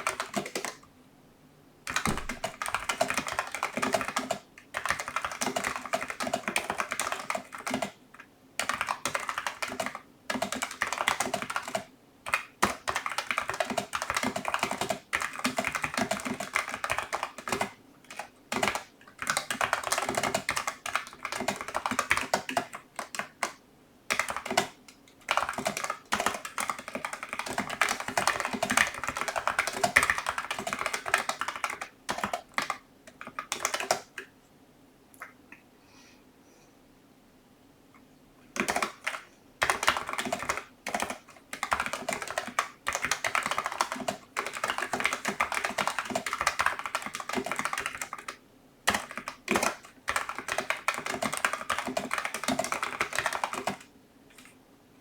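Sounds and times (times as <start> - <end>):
mechanical keyboard typing: 0.0 - 0.8, 1.9 - 8.0, 8.6 - 34.2, 38.6 - 54.5.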